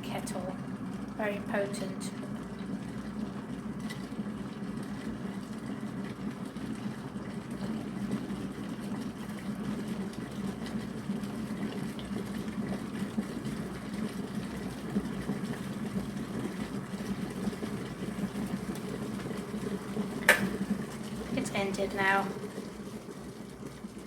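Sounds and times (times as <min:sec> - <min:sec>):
kettle water boiling: 0:00.0 - 0:24.0.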